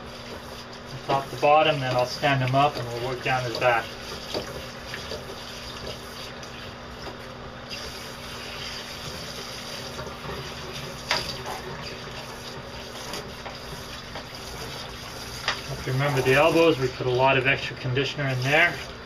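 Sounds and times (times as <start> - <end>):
shower sprayer running: 0.0 - 19.0.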